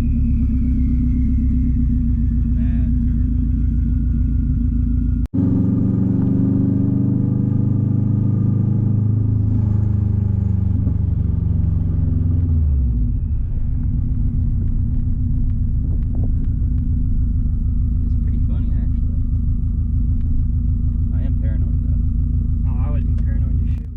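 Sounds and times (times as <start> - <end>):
car engine running loud: 0.0 - 23.9.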